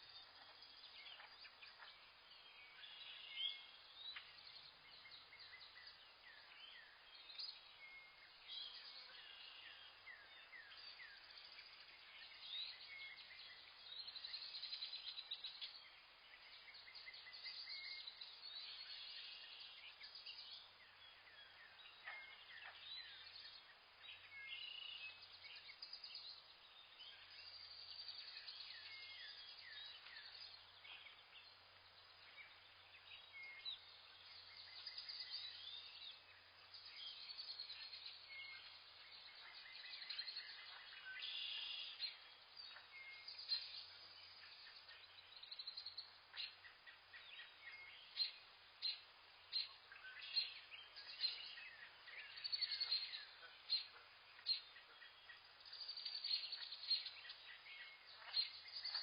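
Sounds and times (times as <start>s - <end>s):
faint hiss: 0.0s - 59.0s
small birds chirping: 0.0s - 59.0s.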